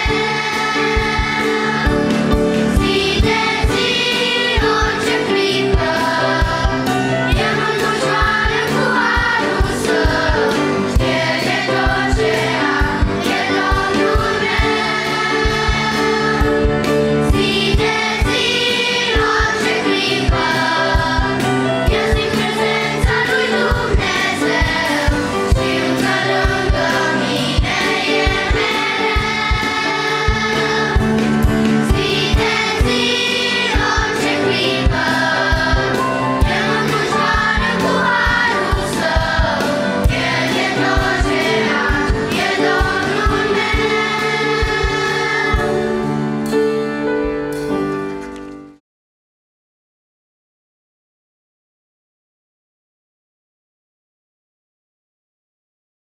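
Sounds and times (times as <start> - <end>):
children's choir singing hymn: 0.0 - 46.5
drum kit beat: 0.0 - 46.6
piano: 0.0 - 48.8.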